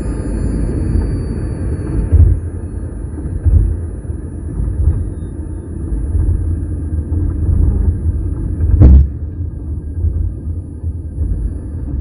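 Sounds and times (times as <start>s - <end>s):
low road rumble: 0.0s - 12.0s.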